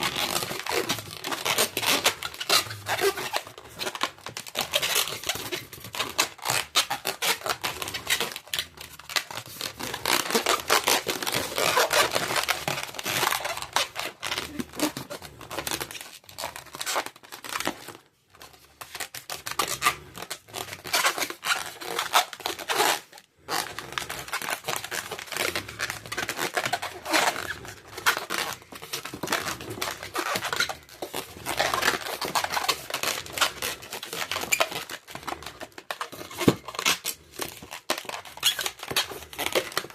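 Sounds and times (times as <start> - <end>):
rubber balloons rubbing and crinkling: 0.0 - 39.9.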